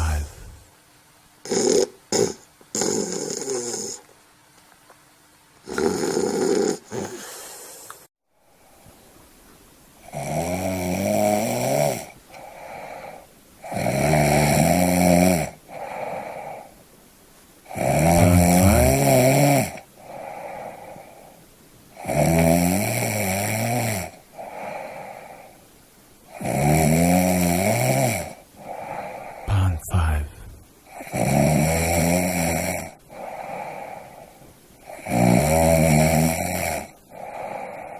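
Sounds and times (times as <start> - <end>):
person snoring: 0.0 - 0.7, 1.4 - 4.0, 5.7 - 7.9, 10.0 - 16.7, 17.7 - 21.4, 22.0 - 25.6, 26.3 - 37.9.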